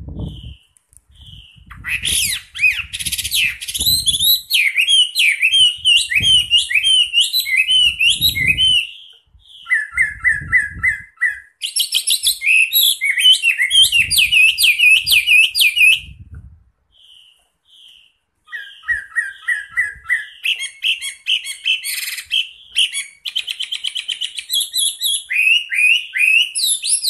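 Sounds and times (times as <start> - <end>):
bird singing whistled phrases: 0.1 - 16.2, 16.9 - 27.0.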